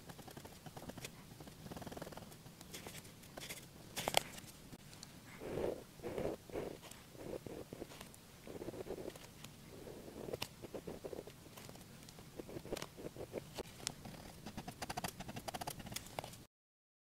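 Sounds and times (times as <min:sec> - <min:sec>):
pen scratching on paper: 0:00.1 - 0:04.3, 0:05.4 - 0:16.0.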